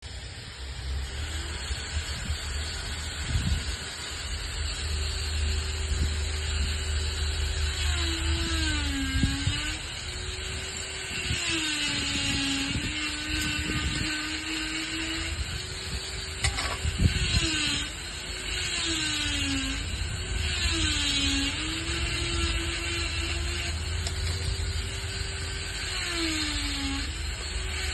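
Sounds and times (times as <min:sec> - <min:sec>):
power grinder cutting stone: 0:00.1 - 0:27.9.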